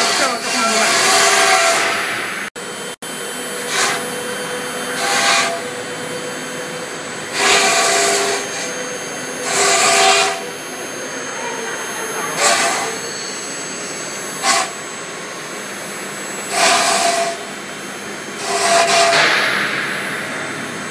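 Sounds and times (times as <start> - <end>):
router spindle whining: 0.0 - 2.0, 2.6 - 19.5.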